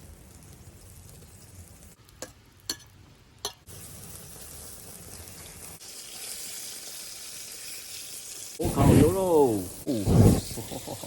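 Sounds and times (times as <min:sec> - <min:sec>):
steady sizzling hiss: 0:00.0 - 0:11.0.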